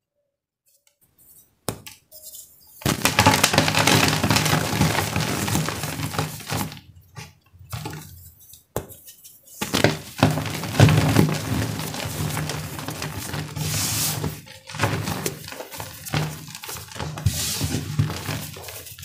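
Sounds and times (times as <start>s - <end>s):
chalk crunching and crumbling: 2.2s - 6.8s, 7.7s - 19.0s.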